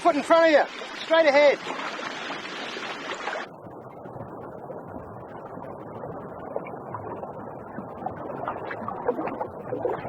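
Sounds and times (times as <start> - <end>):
muffled underwater rushing: 0.0 - 10.0.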